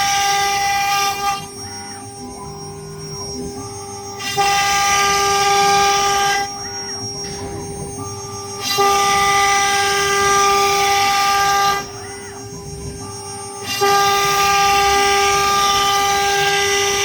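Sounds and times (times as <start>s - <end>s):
wood router spindle whine: 0.0s - 17.0s.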